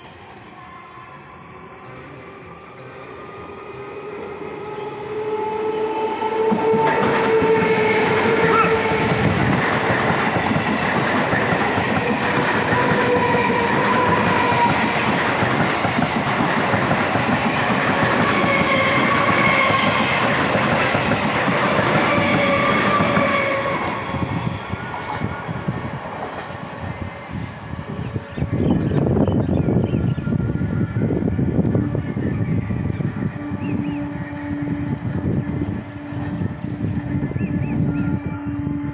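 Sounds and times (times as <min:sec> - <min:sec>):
train passing close by: 0:00.0 - 0:38.9.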